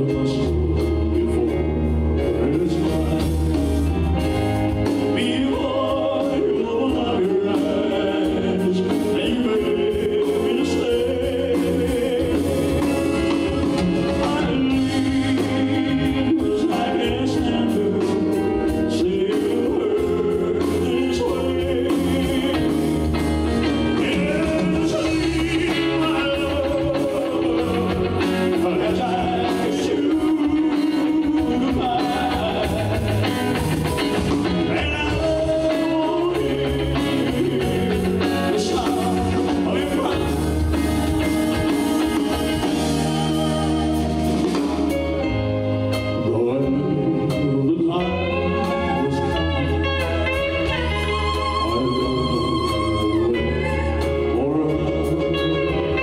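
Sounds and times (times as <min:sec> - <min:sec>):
live band playing: 0:00.0 - 0:56.0
man singing a slow ballad: 0:00.0 - 0:56.0.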